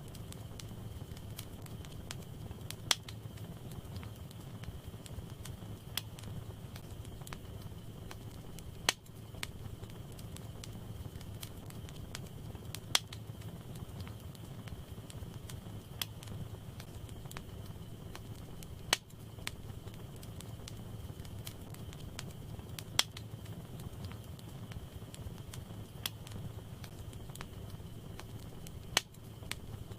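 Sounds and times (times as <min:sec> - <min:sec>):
sharp pops of fire: 0:00.0 - 0:29.9
wood fire crackling: 0:00.0 - 0:29.9.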